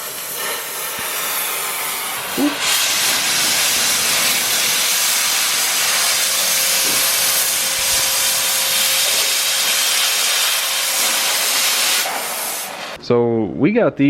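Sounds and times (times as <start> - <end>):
power tool cutting steel: 0.0 - 13.0.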